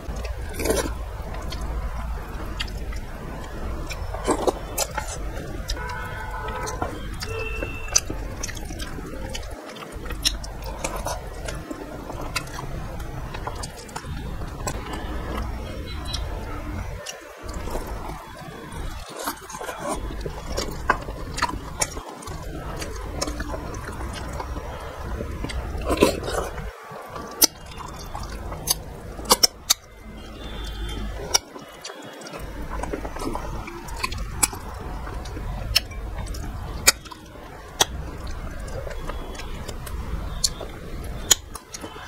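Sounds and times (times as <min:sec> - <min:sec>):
wet chewing and smacking: 0:00.0 - 0:42.0.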